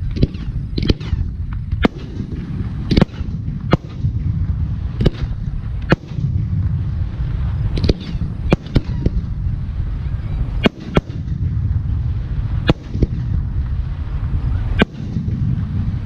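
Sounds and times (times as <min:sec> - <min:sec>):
firework shells bursting: 0:00.0 - 0:16.0
low rumble: 0:00.0 - 0:16.0.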